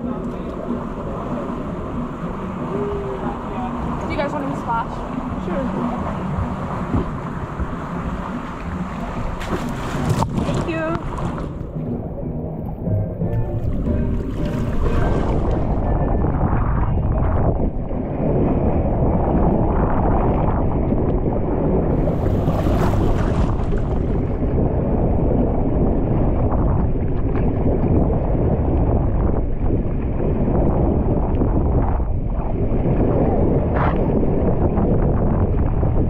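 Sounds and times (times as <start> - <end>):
water rushing under a raft: 0.0 - 12.2, 13.4 - 36.0
wind buffeting microphone: 0.0 - 36.0.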